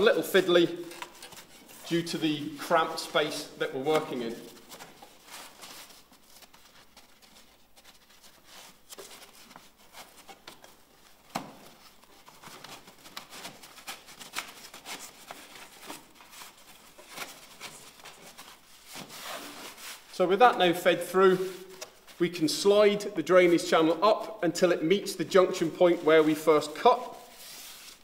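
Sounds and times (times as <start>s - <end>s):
roofing membrane rustling: 0.0s - 28.0s.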